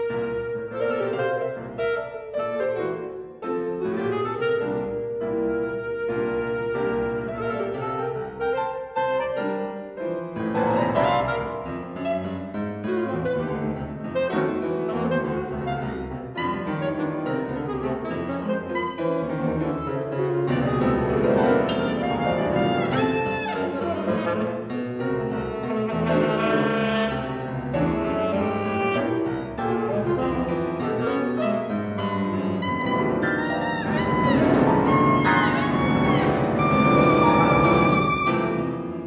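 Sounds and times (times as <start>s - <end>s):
alto saxophone: 0.0s - 2.8s, 3.5s - 9.9s, 10.8s - 39.0s
piano: 0.0s - 39.0s.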